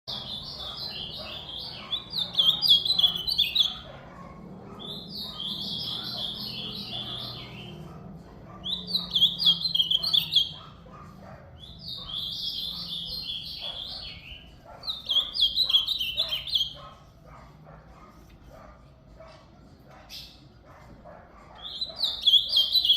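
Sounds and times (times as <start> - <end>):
bird singing warbled phrases: 0.1 - 18.1, 21.3 - 22.9.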